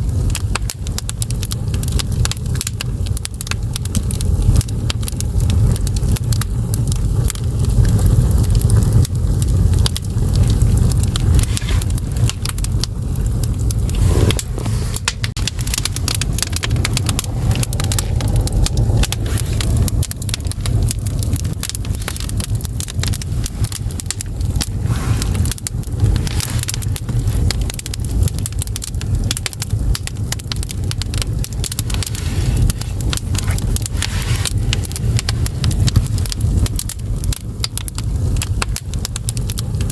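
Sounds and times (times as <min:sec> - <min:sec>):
firewood crackling and popping: 0:00.0 - 0:39.9
low rumble of fire: 0:00.0 - 0:39.9.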